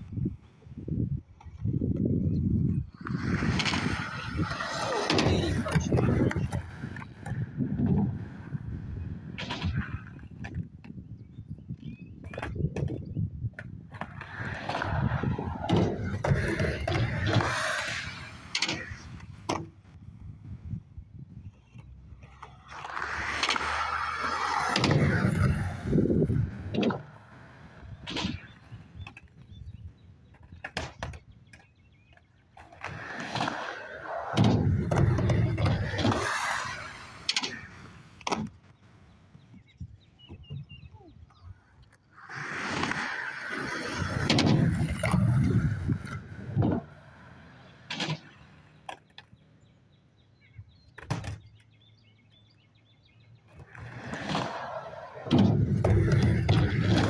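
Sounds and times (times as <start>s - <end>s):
skateboard wheels rolling: 0.0s - 57.0s.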